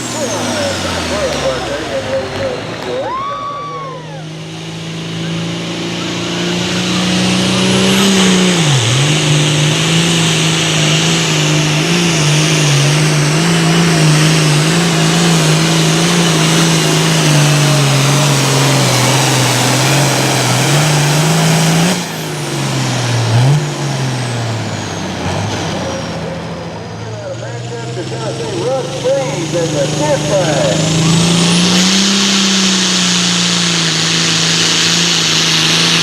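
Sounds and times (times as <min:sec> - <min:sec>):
tractor diesel engine revving: 0:00.0 - 0:36.0.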